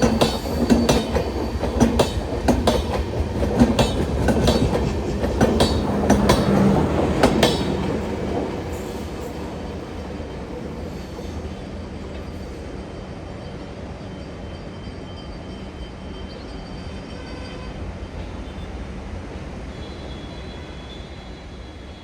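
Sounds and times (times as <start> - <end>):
train rumbling on tracks: 0.0 - 22.0.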